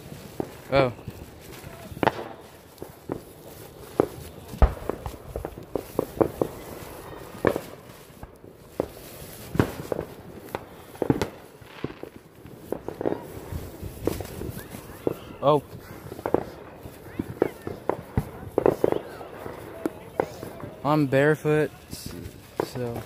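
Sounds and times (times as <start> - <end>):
fireworks popping and cracking: 0.0 - 23.0.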